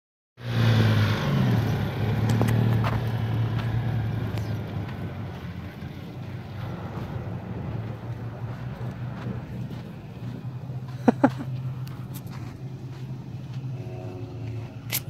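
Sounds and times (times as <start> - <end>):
car engine running: 0.4 - 15.0.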